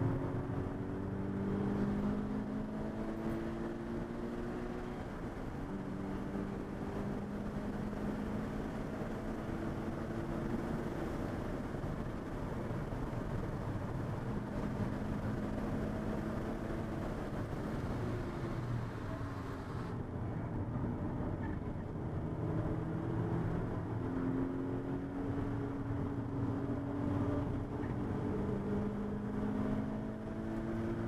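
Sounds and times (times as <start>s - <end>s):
car engine running hard: 0.0s - 31.0s
road and wind noise: 0.0s - 31.0s.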